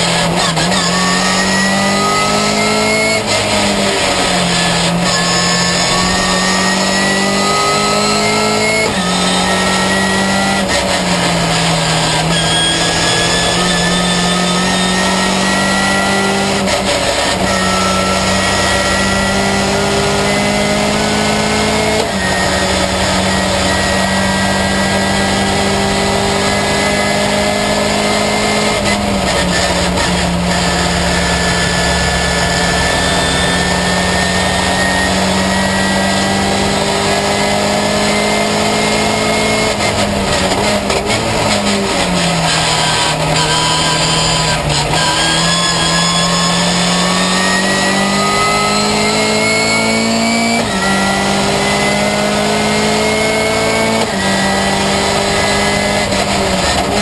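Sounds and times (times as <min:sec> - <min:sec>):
race car engine under load: 0:00.0 - 0:57.0.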